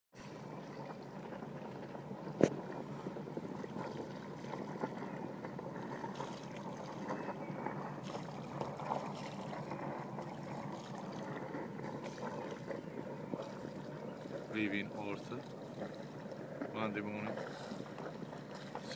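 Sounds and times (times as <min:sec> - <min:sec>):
water swishing along a hull: 0:00.1 - 0:18.9.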